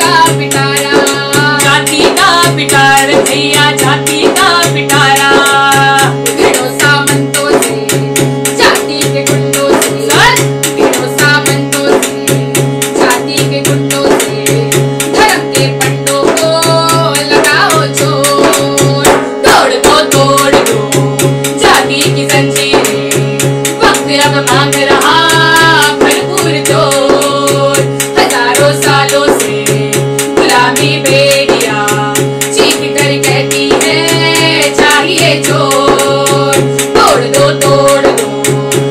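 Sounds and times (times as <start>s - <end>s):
hand drum steady beat: 0.0s - 38.9s
sustained keyboard chords: 0.0s - 38.9s
women singing in unison: 0.0s - 38.9s.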